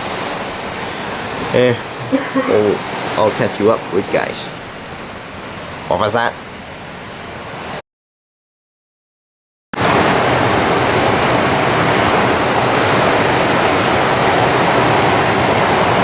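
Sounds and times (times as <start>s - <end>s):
heavy rain: 0.0s - 7.8s, 9.8s - 16.0s.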